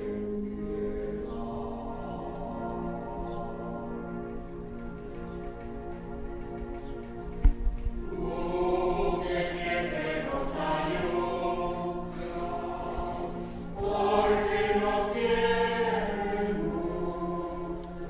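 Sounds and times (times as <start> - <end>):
choir singing: 0.0 - 5.9, 8.0 - 18.0.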